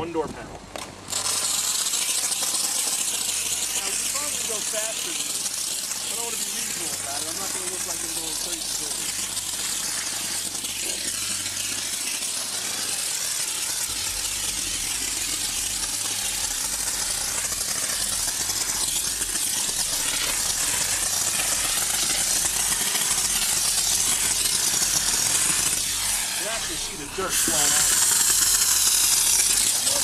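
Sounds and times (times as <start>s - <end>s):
steam cleaner hissing: 1.0s - 30.0s.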